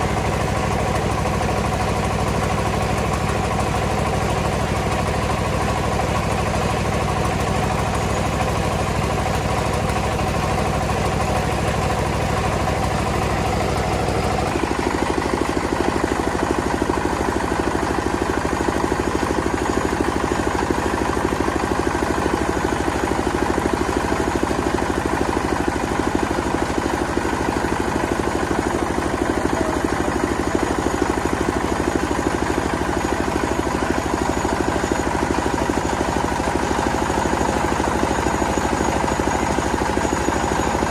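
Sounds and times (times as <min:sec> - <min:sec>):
milling machine running: 0:00.0 - 0:40.9.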